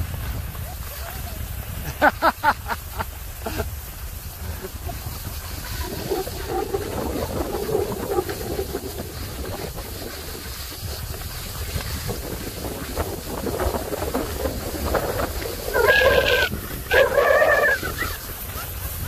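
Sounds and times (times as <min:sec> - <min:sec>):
skis scraping over snow: 0:00.0 - 0:19.0
wind noise on microphone: 0:00.0 - 0:19.0.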